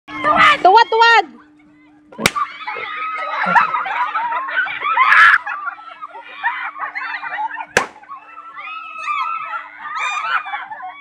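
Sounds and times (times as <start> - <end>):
women laughing and shrieking: 0.1 - 11.0.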